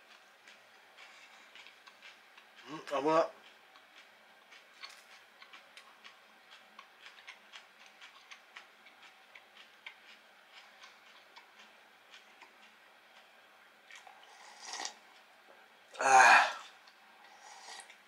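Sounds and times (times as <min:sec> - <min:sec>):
chewing crunchy fried food: 0:00.0 - 0:15.3.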